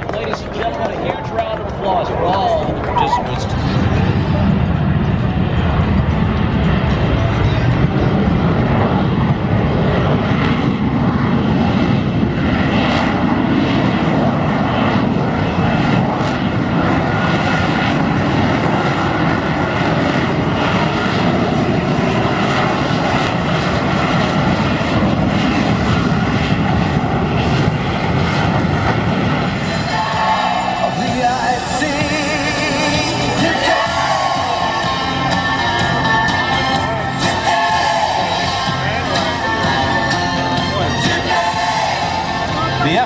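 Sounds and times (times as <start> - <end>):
military aircraft engine noise: 0.0 - 43.0.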